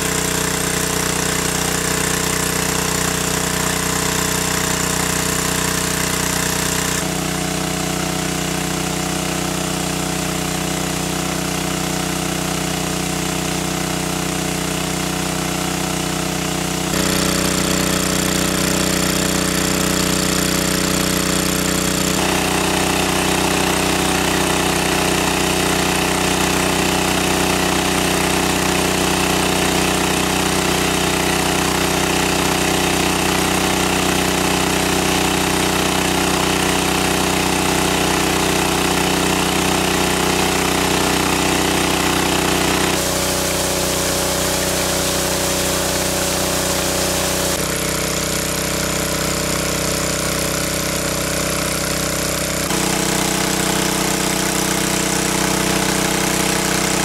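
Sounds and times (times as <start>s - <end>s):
water pump engine running: 0.0s - 57.0s
water rushing from hose: 0.0s - 57.0s.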